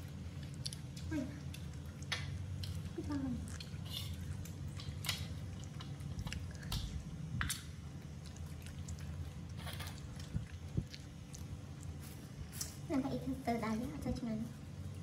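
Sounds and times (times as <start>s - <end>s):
wet chewing and smacking: 0.0s - 12.9s
low steady hum: 0.0s - 15.0s.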